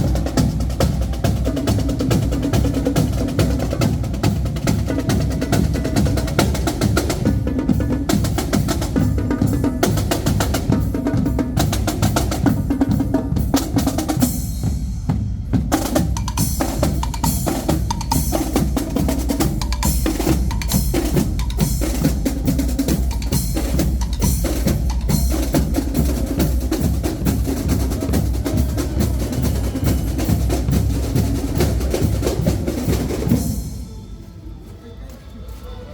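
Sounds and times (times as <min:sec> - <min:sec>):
snare drums with rolls: 0:00.0 - 0:33.8
bass drums: 0:00.0 - 0:33.9.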